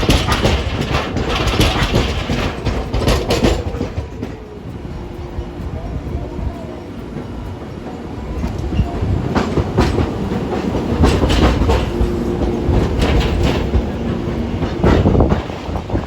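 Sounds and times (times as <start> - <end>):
low rumble of streetcar: 0.0 - 16.0
streetcar wheels clattering over rails: 0.0 - 16.0.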